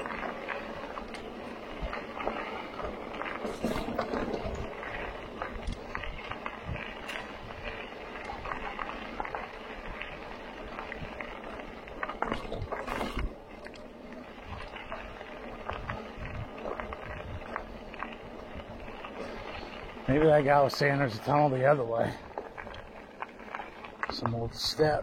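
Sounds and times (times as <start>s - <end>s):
wheels crunching over dirt trail: 0.0s - 25.0s.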